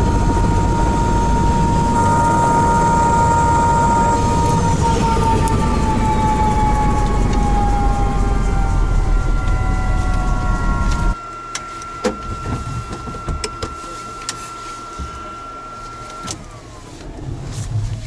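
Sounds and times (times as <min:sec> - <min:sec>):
helicopter engine whine: 0:00.0 - 0:16.8.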